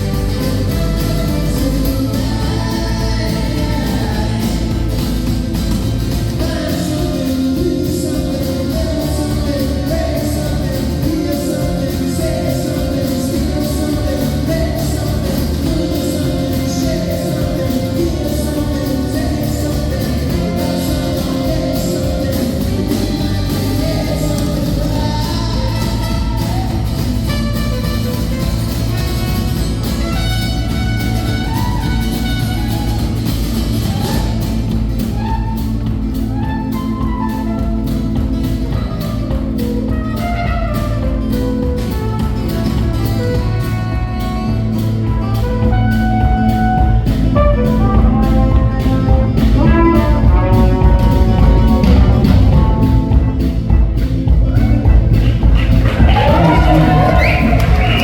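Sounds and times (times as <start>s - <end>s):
live band with guitar: 0.0s - 58.0s.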